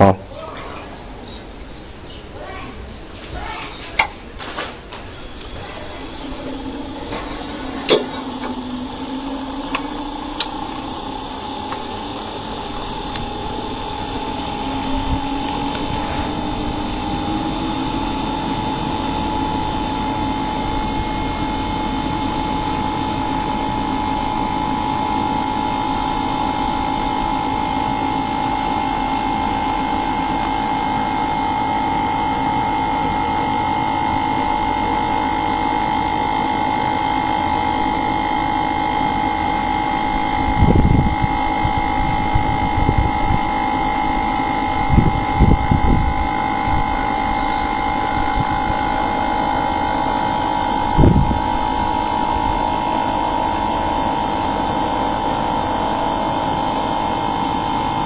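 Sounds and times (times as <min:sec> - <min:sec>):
air conditioner hum rising: 0:00.0 - 0:58.0.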